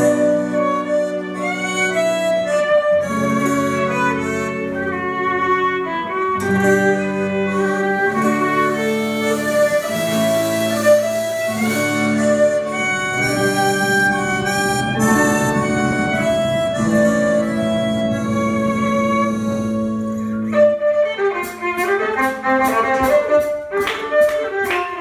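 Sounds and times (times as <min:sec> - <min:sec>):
accordion: 0:00.0 - 0:25.0
banjo: 0:00.0 - 0:25.0
fiddle: 0:00.0 - 0:25.0
guitars: 0:00.0 - 0:25.0.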